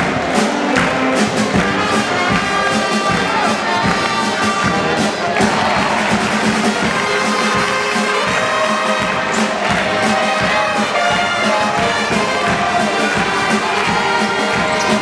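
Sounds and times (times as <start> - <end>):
brass-led music: 0.0 - 15.0
crowd clapping along: 0.0 - 15.0.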